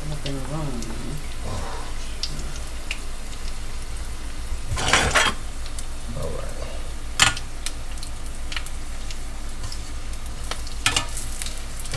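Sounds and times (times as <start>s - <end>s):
food deep-frying in oil: 0.0s - 11.9s.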